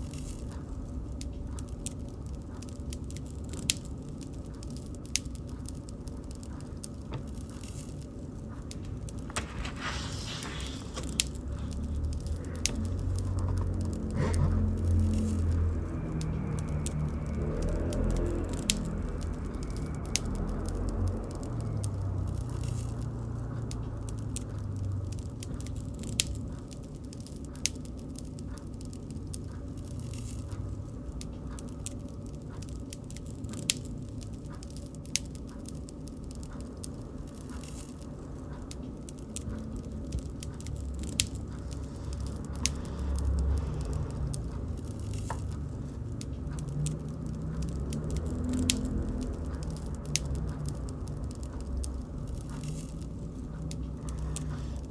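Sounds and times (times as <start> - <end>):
bonfire crackling: 0.0 - 54.9
sharp pops and snaps: 0.0 - 54.9.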